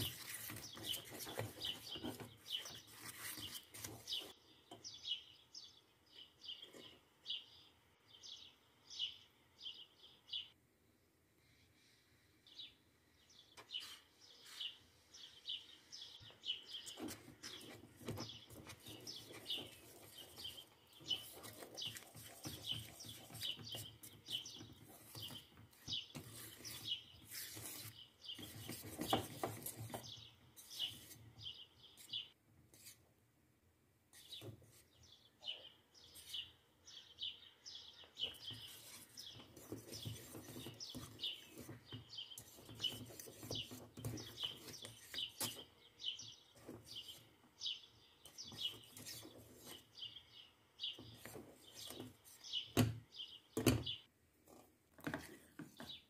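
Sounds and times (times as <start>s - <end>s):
small birds chirping: 0.0s - 10.6s, 11.4s - 33.1s, 34.1s - 54.1s, 55.0s - 56.0s.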